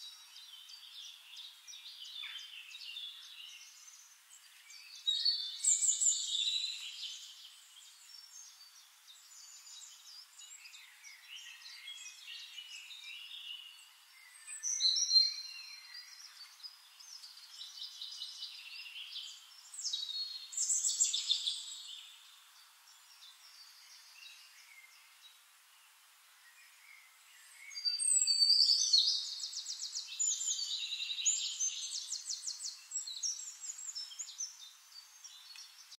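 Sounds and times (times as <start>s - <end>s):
songbirds chirping and trilling: 0.0s - 36.0s.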